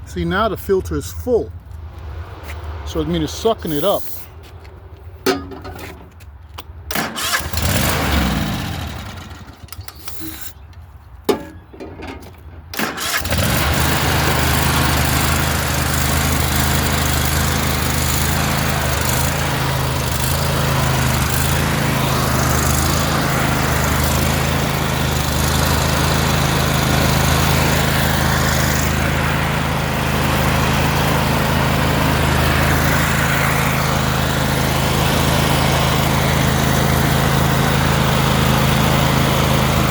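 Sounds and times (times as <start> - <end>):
riding mower engine starting and running: 0.0 - 39.9.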